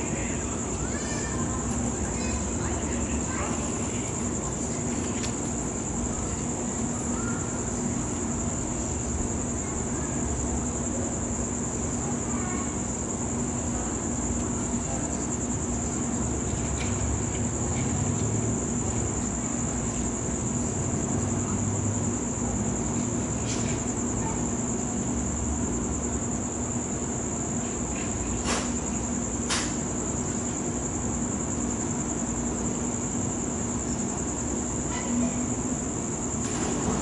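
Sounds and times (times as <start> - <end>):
crickets chirping: 0.0 - 37.0
steady low hum: 0.0 - 37.0.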